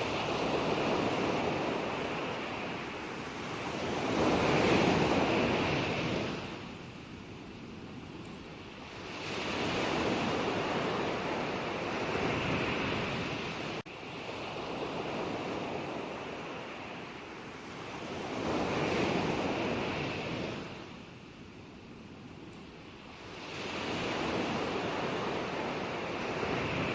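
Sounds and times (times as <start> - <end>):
ocean waves breaking on shore: 0.0 - 21.5, 22.2 - 26.9.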